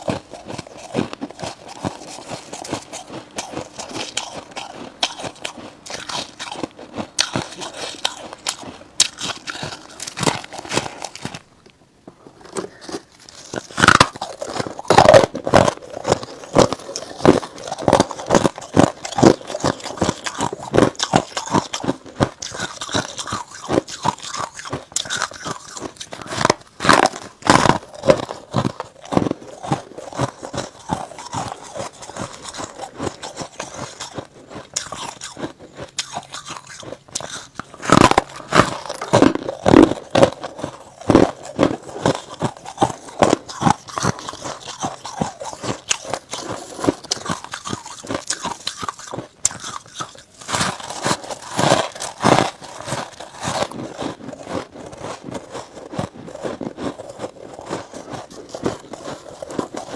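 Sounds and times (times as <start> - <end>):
crunchy biting and chewing of frost: 0.0 - 11.6, 12.3 - 59.9.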